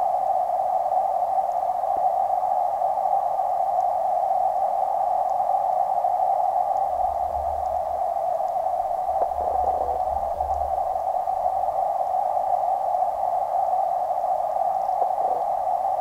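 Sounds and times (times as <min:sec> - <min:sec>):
muffled underwater hiss: 0:00.0 - 0:16.0.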